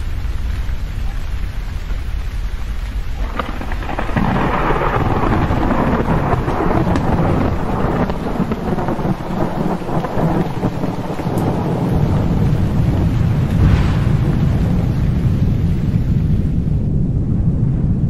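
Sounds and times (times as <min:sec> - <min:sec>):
steady rain: 0:00.0 - 0:18.0
thunder crackles: 0:00.0 - 0:18.0
thunder rumbling: 0:00.0 - 0:18.0.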